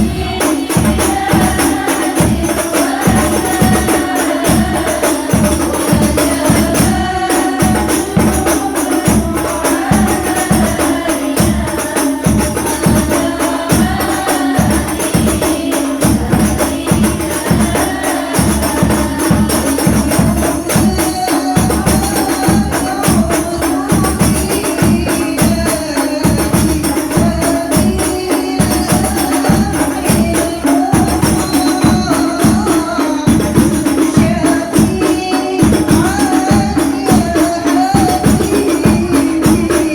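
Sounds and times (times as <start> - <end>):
frame drums and jingles: 0.0 - 39.9
voices singing: 0.0 - 39.9.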